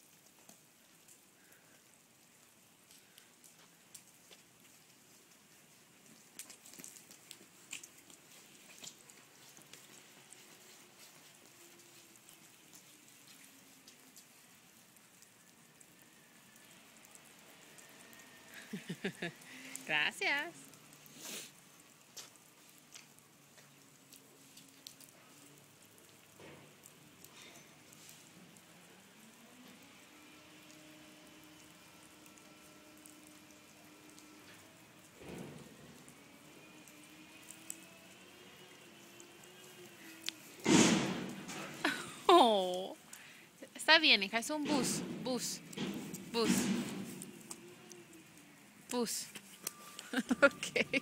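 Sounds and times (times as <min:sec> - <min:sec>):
faint ticking of falling drops: 0:00.0 - 0:19.9, 0:20.5 - 0:43.6
light rain on pavement: 0:00.0 - 0:51.0.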